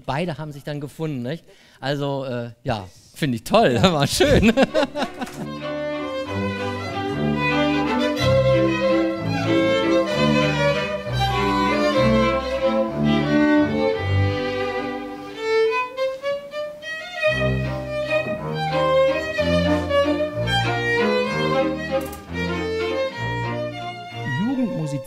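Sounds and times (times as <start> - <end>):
violins playing melody: 4.4 - 25.0.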